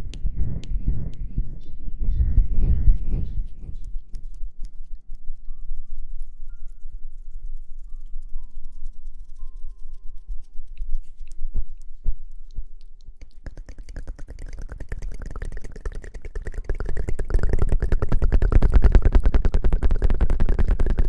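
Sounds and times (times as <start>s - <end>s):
scratchy rubbing on microphone: 0.0s - 5.1s, 7.0s - 12.0s, 13.4s - 21.0s.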